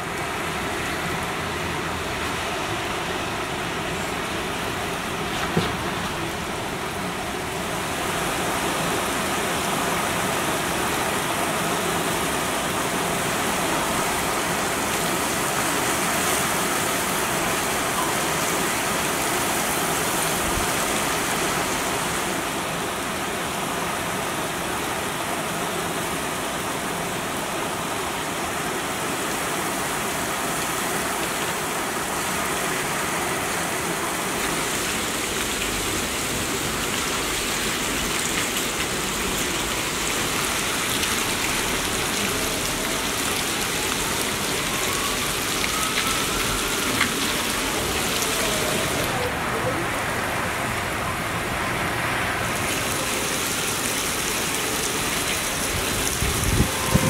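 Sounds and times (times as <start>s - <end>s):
heavy rain on roofs and streets: 0.0s - 57.0s.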